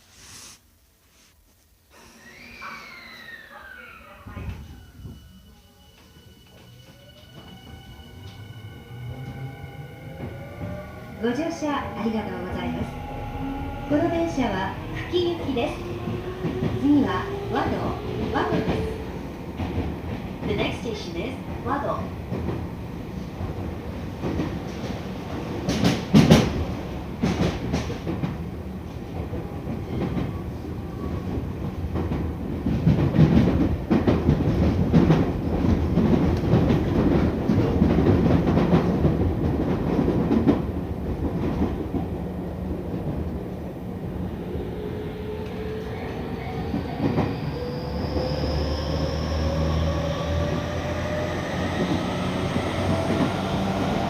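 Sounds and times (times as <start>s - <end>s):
train running noise: 4.1s - 43.5s, 44.8s - 54.0s.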